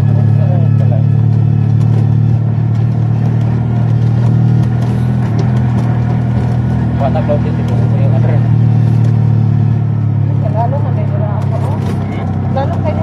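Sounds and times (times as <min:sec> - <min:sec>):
road noise: 0:00.0 - 0:13.0
vehicle engine cruising: 0:00.0 - 0:13.0.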